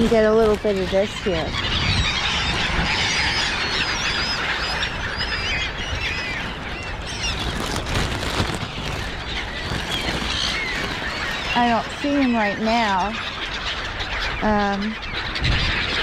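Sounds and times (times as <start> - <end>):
low background rumble: 0.0 - 15.4
seagulls calling: 0.0 - 16.0.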